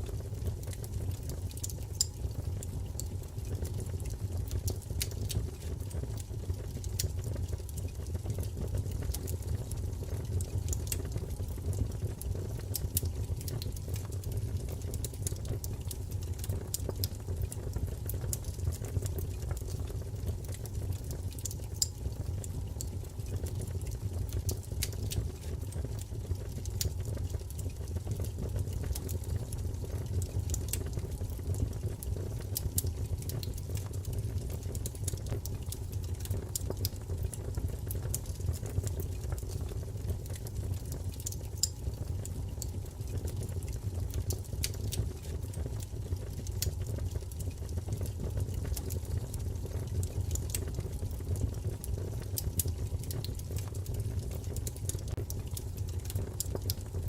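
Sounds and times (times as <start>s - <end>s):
fire crackles and pops: 0.0s - 57.0s
wood fire rumbling: 0.0s - 57.0s.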